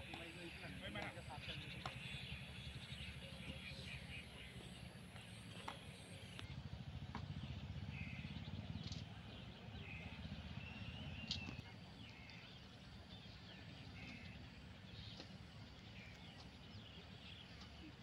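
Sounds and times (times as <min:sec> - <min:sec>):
birds chirping: 0:00.0 - 0:18.0
low steady rumble: 0:00.0 - 0:18.0.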